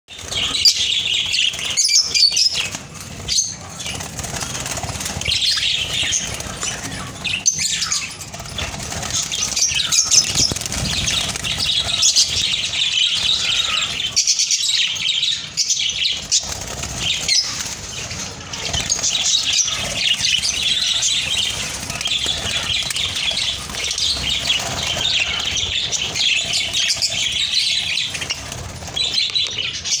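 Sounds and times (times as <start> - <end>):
budgerigars chirping and chattering: 0.1 - 30.0.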